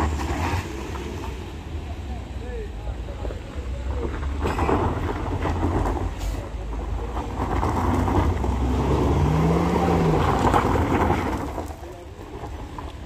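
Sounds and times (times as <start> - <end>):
vehicle engine climbing: 0.0 - 13.0.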